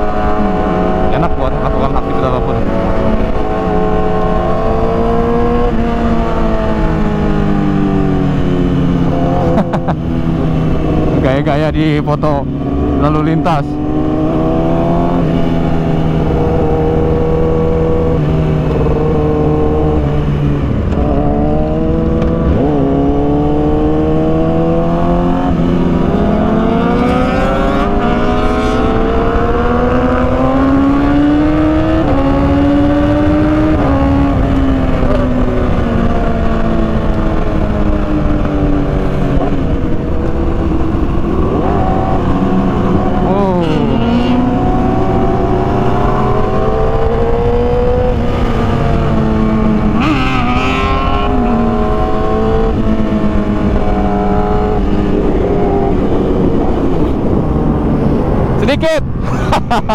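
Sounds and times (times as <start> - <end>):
road and wind rumble: 0.0 - 59.9.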